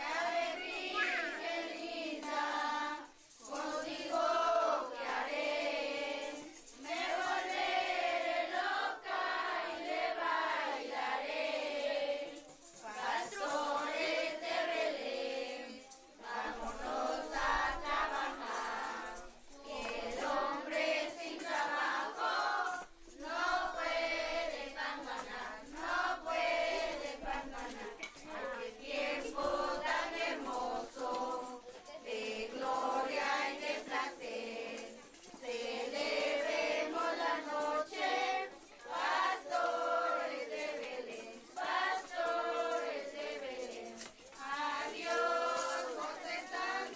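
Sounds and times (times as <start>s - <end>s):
children singing in unison: 0.0s - 46.9s.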